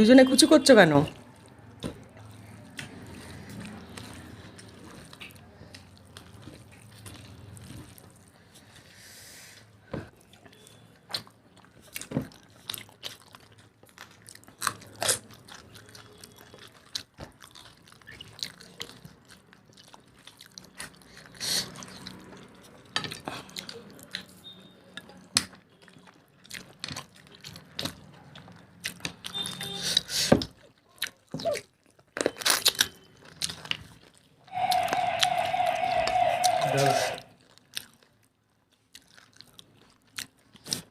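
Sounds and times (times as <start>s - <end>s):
wet chewing: 1.0s - 8.7s, 10.1s - 40.9s.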